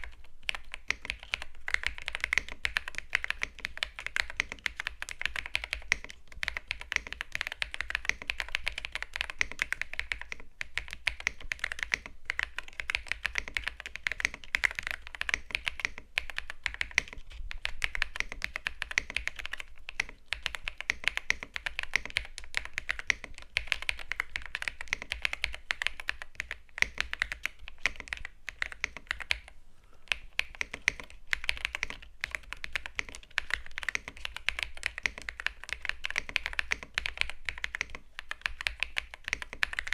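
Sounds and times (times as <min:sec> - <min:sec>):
fast typing on keyboard: 0:00.0 - 0:29.5, 0:30.1 - 0:39.9.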